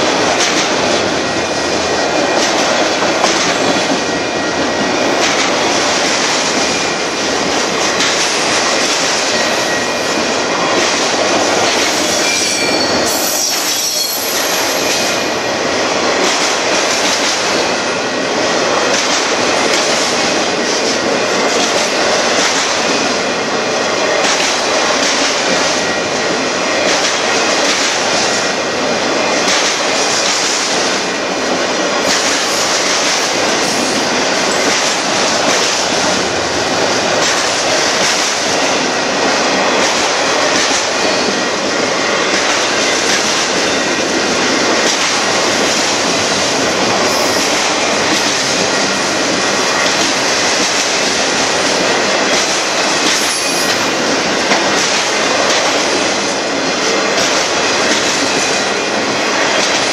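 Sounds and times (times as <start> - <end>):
train wheels rumbling and rattling: 0.0 - 59.9.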